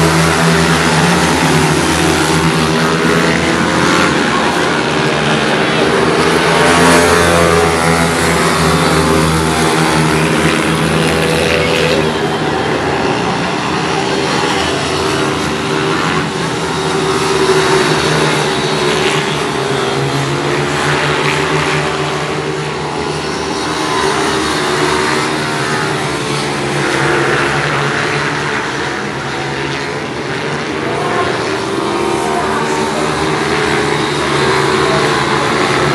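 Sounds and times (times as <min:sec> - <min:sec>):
pit bike engines racing: 0:00.0 - 0:35.9.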